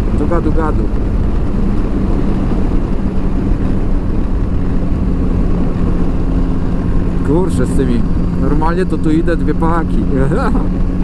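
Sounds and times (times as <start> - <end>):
motorcycle engine droning: 0.0 - 11.0
wind rumble on microphone: 0.0 - 11.0.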